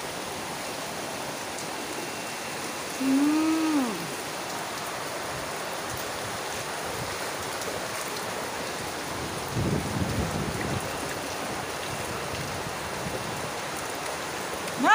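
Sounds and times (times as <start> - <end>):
floodwater running: 0.0 - 14.9
heavy rain pouring: 0.0 - 14.9.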